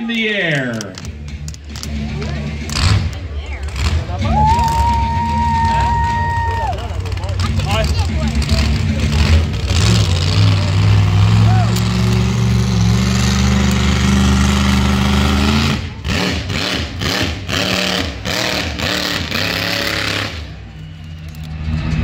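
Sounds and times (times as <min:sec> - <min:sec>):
monster truck engine revving: 0:00.8 - 0:22.0.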